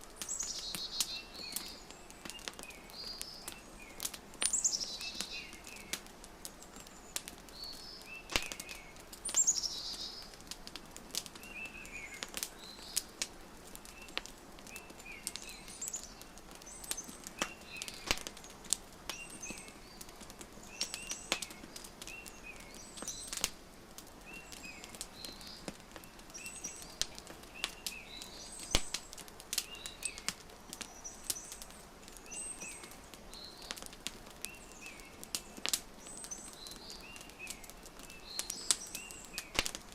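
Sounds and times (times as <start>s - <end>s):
wood fire crackling and popping: 0.0s - 39.9s
small birds chirping: 0.1s - 39.9s.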